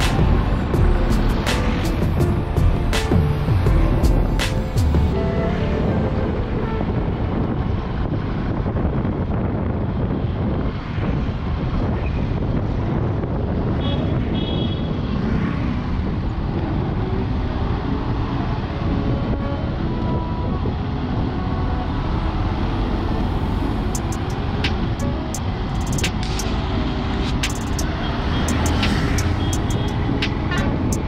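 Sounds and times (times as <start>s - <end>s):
moving vehicle rumble: 0.0s - 31.0s.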